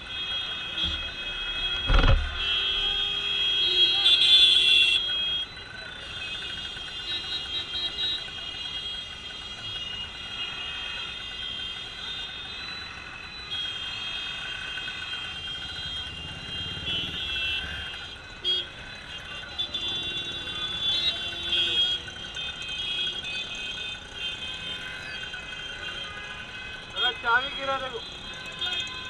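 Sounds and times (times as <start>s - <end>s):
road vehicle noise: 0.0s - 29.0s.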